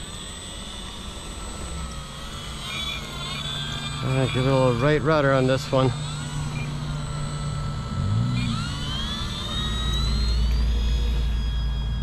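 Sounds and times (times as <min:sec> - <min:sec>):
electric motor and propeller whining: 0:00.0 - 0:12.0.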